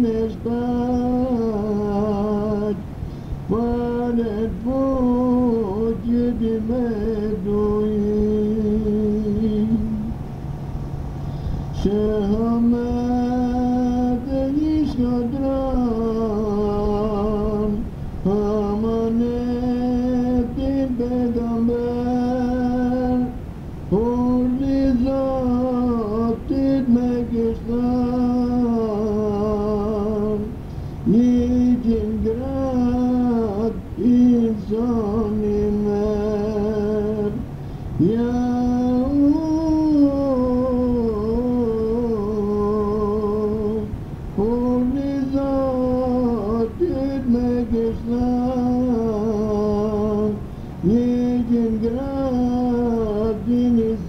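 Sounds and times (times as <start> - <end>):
person singing a devotional hymn: 0.0 - 10.3, 11.3 - 54.0.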